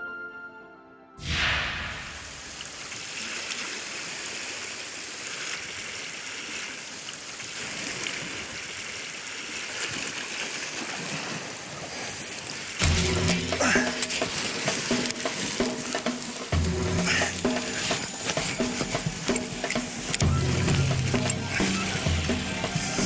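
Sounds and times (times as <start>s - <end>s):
surf washing against rocks: 1.6s - 23.0s.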